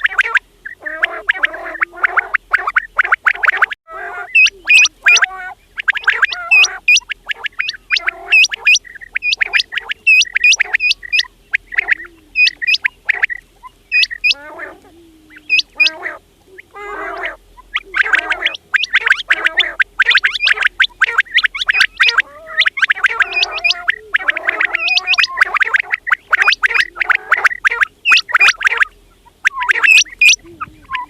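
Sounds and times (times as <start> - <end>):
quails calling: 0.0 - 31.0.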